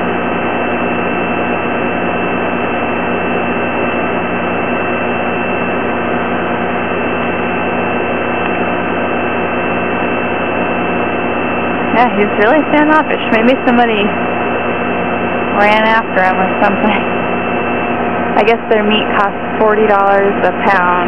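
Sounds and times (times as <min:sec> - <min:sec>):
constant hum: 0:00.0 - 0:21.0.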